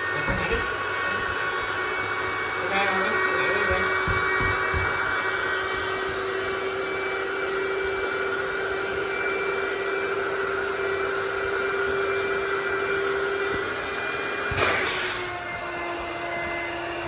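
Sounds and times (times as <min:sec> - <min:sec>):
electric pump motor humming: 0:00.0 - 0:17.0.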